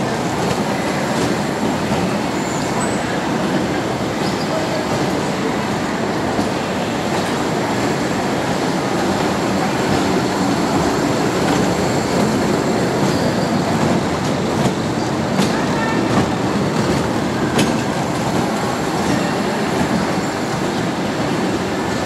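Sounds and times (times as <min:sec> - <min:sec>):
ride train wheels on rails: 0:00.0 - 0:22.0.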